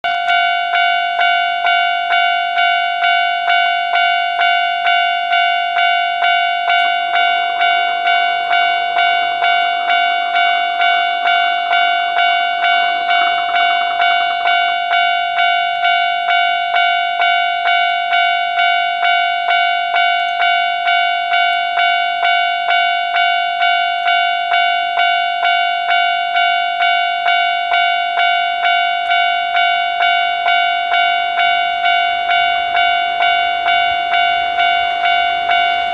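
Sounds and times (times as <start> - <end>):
level-crossing warning bell ringing: 0.0 - 35.9.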